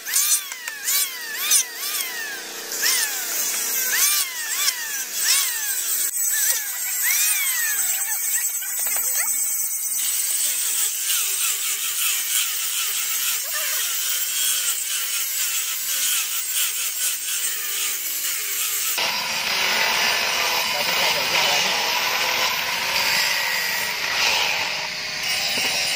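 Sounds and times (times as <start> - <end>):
angle grinder sanding wood: 0.0 - 25.9
electric planer shaving wood: 0.0 - 25.9.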